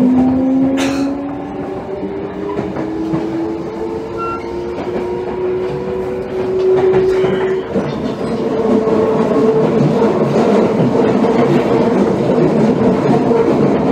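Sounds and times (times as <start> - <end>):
subway train inverter whine: 0.0 - 13.9
train running noise: 0.0 - 13.9.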